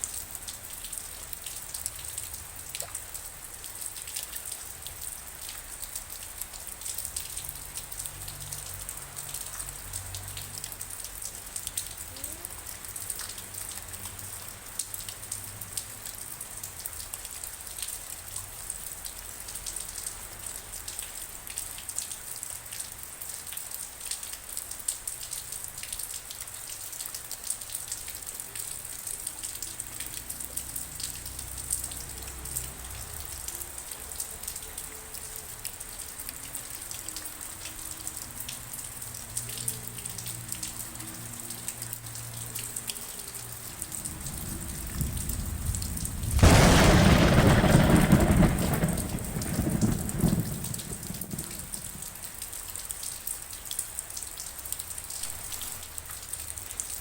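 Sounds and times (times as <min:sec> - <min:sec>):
rain falling: 0:00.0 - 0:57.0
raindrops ticking: 0:00.0 - 0:57.0.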